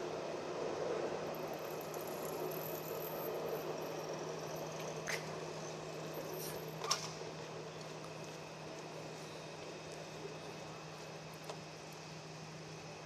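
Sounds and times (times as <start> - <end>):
city street hum: 0.0 - 13.0
tram running along street: 0.0 - 13.0.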